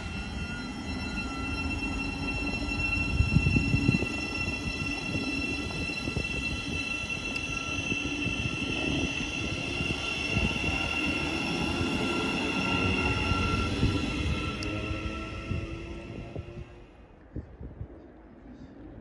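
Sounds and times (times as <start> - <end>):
electric train whine: 0.0 - 17.1
train wheels rumbling on rails: 0.0 - 17.1.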